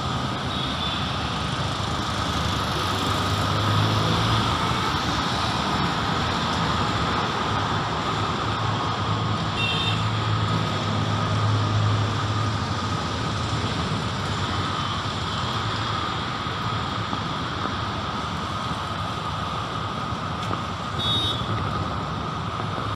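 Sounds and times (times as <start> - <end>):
passing vehicles rushing: 0.0 - 22.9.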